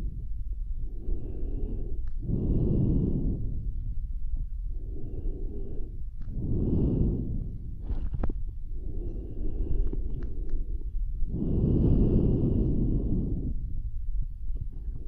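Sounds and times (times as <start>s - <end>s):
slow deep breathing: 0.0s - 15.0s.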